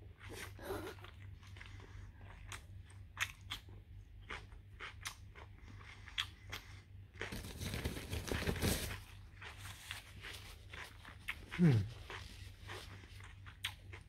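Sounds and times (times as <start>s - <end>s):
crunchy chewing of food: 0.0s - 14.0s.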